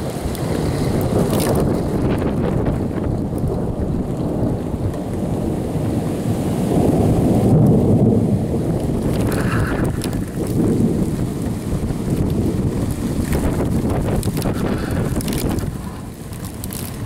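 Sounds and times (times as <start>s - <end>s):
strong wind: 0.0s - 17.0s
thunder rumbling: 0.0s - 17.0s.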